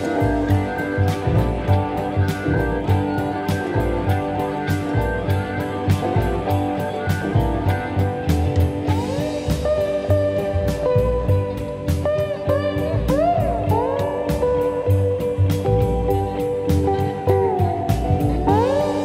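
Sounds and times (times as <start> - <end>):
guitar music: 0.0 - 19.0
sliding guitar notes: 0.0 - 19.0
steady drum beat: 0.0 - 19.0.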